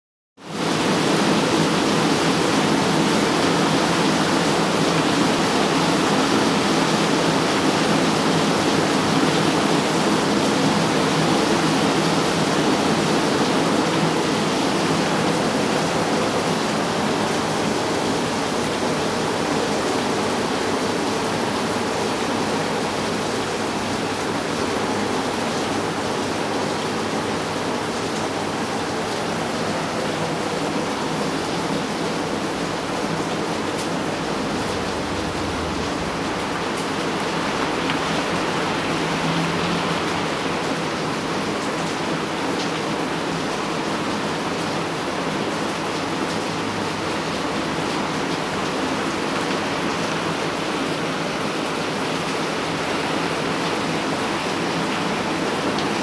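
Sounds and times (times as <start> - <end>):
heavy rain on metal roofs: 0.4 - 56.0.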